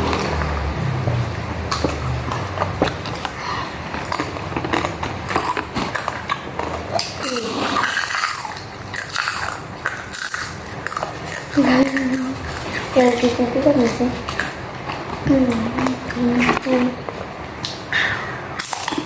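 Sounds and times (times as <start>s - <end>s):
chewing crunchy food: 0.0s - 17.9s, 18.5s - 19.0s.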